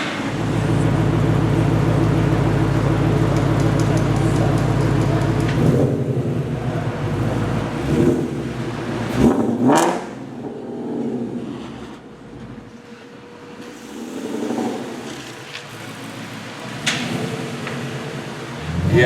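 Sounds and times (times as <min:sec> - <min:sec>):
car engine revving: 0:00.0 - 0:12.9, 0:13.5 - 0:19.0.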